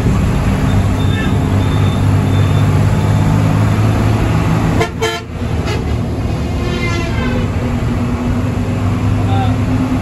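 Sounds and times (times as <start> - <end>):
bus engine droning: 0.0 - 10.0.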